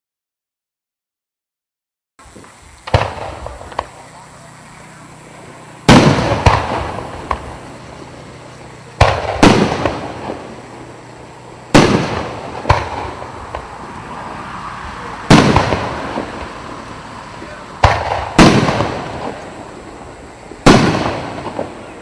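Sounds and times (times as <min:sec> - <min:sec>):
fireworks pops and crackle: 0:02.2 - 0:04.6, 0:05.5 - 0:14.2, 0:15.0 - 0:22.0
fireworks bangs: 0:02.2 - 0:22.0.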